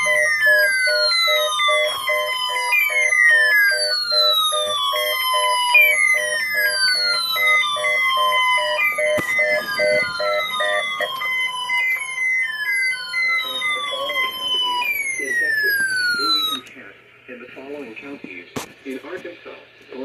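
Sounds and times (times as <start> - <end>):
fast pulsing beep: 0.0 - 11.4, 12.0 - 16.7
falling siren-like alarm tone: 0.0 - 16.7
steady high beeps: 0.0 - 16.7.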